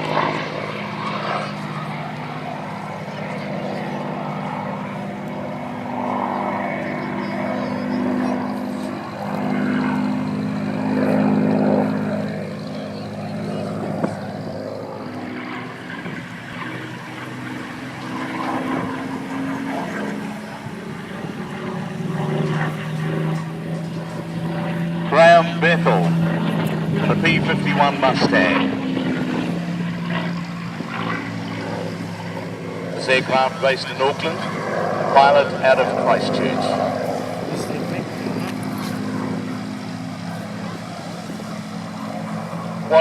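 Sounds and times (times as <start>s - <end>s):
propeller aircraft flying overhead: 0.0s - 43.0s.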